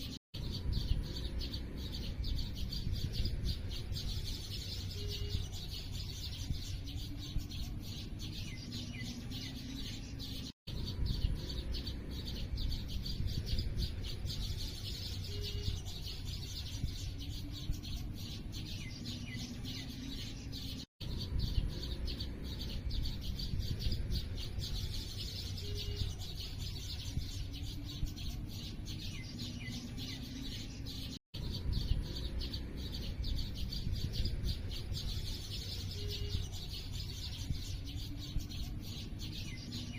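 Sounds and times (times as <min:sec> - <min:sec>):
lower bird calls: 0:00.0 - 0:39.9
small birds chirping: 0:00.0 - 0:39.9
steady low rumble: 0:00.4 - 0:10.0, 0:10.7 - 0:20.2, 0:21.0 - 0:29.3, 0:31.4 - 0:39.8.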